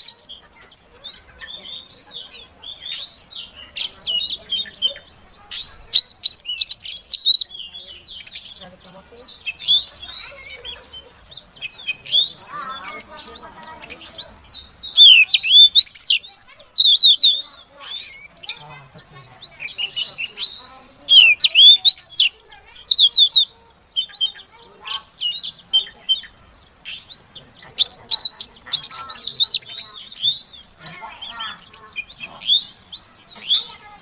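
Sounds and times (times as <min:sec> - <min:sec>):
bird chirping and whistling: 0:00.0 - 0:34.0.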